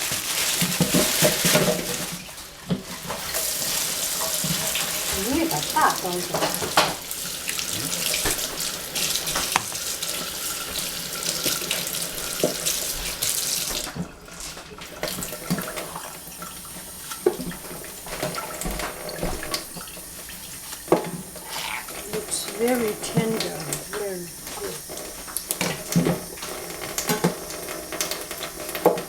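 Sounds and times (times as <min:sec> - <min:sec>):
tap water running into sink: 0:00.0 - 0:29.0.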